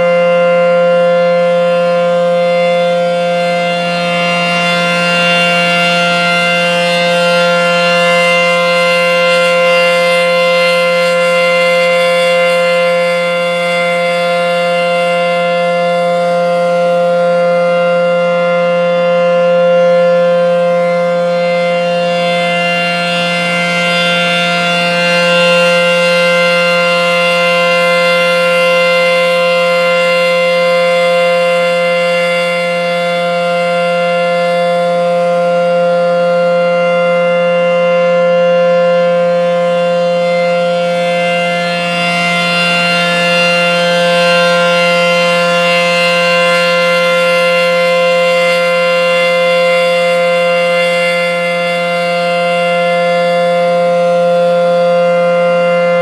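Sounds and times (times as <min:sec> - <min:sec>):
electromechanical siren: 0:00.0 - 0:56.0.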